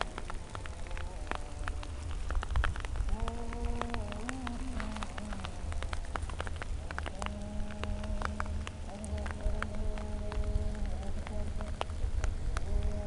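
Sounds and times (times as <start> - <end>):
crackling ticks: 0.0 - 13.0
wind rumble on microphone: 0.0 - 13.0.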